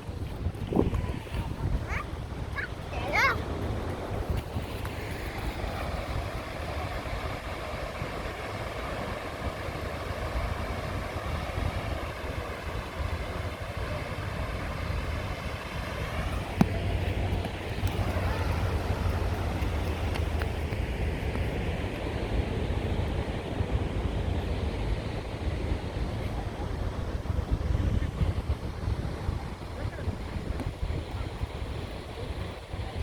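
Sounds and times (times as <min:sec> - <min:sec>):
surf washing: 0:00.0 - 0:33.0
wind buffeting microphone: 0:00.0 - 0:33.0.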